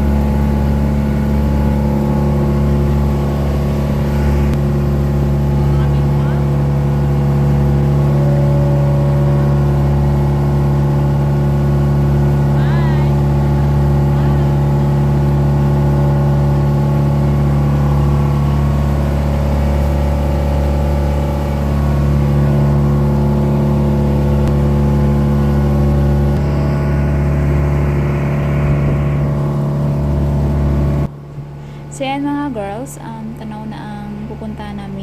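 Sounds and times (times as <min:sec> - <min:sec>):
motorboat engine droning: 0:00.0 - 0:35.0.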